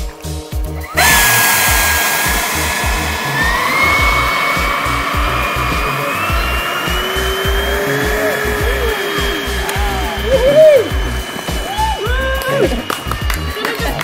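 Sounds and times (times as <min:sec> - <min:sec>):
electric ducted fan whine: 0:01.0 - 0:14.0
rushing air: 0:01.0 - 0:14.0.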